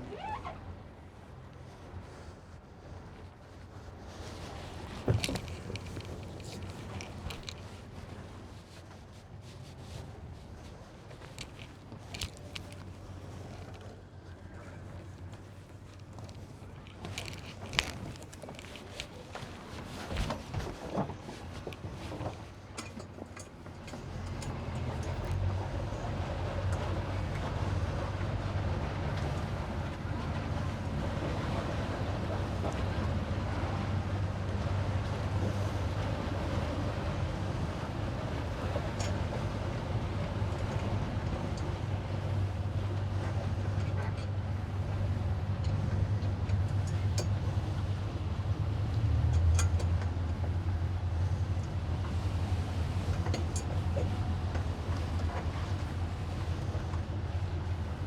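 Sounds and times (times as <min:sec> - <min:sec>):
boat engine droning: 0:00.0 - 0:08.7, 0:09.8 - 0:58.0.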